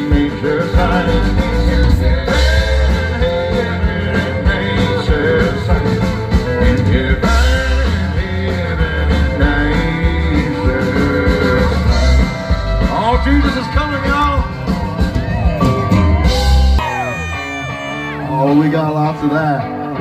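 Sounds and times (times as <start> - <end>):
live band playing: 0.0 - 20.0
melodic guitar lines: 0.0 - 20.0.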